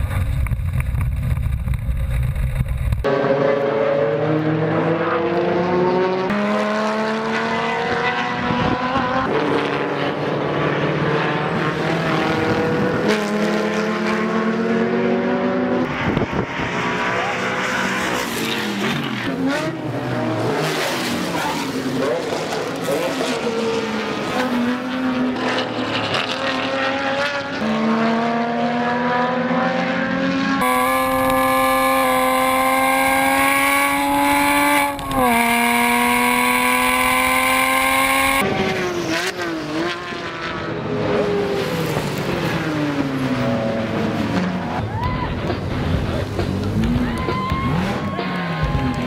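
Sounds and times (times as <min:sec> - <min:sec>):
race cars passing by: 0:03.0 - 0:49.0
race car engine pulling hard: 0:03.1 - 0:44.8.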